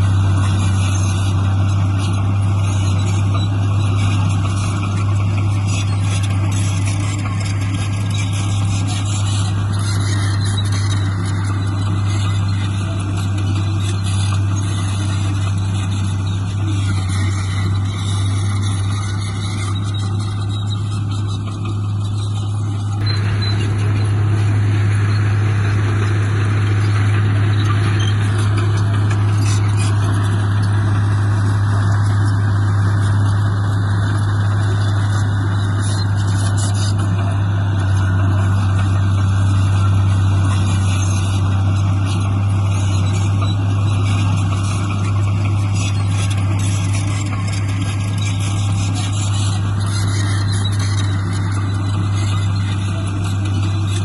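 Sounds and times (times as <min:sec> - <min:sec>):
diesel engine low drone: 0:00.0 - 0:54.0.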